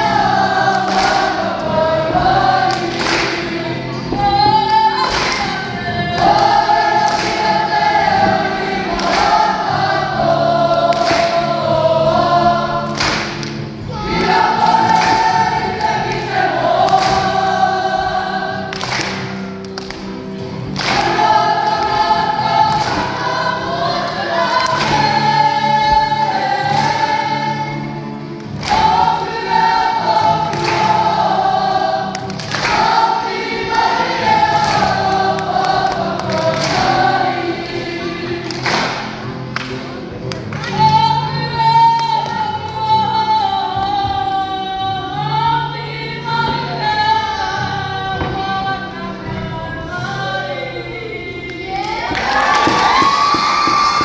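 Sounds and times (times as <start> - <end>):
group singing in unison: 0.0 - 54.0.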